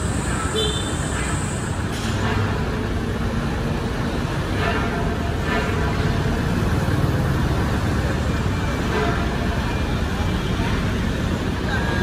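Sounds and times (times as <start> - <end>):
passing vehicles rumbling: 0.0 - 12.0.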